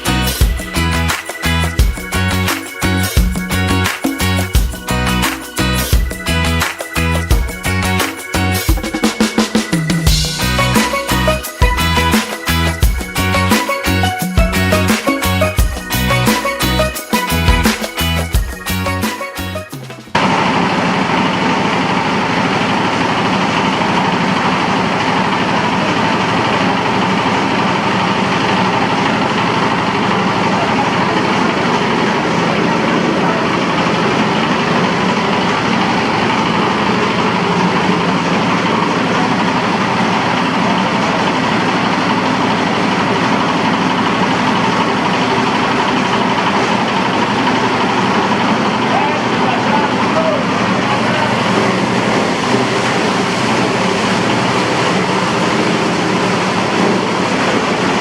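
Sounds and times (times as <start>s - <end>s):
machine engine humming: 0.0s - 19.0s, 20.1s - 58.0s.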